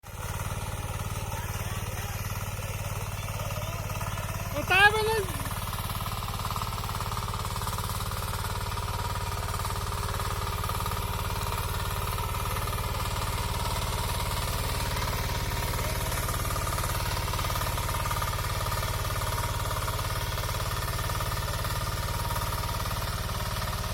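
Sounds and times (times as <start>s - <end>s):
power tiller engine putter: 0.0s - 23.9s.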